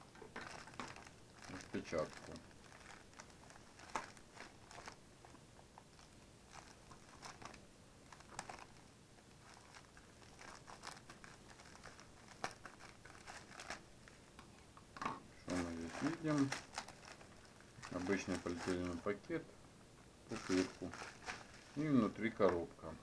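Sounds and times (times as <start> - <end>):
plastic mailer crinkling: 0.3 - 13.8, 15.4 - 19.2, 20.3 - 22.6.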